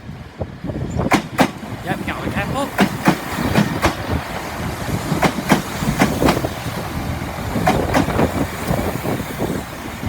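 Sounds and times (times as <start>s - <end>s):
train wheels clattering: 1.0s - 9.6s.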